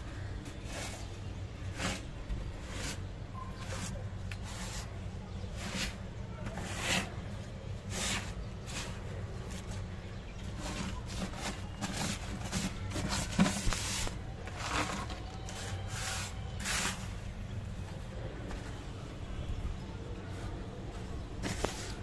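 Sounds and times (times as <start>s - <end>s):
hand scraping through sandy dirt: 0.2s - 17.3s, 21.3s - 22.0s.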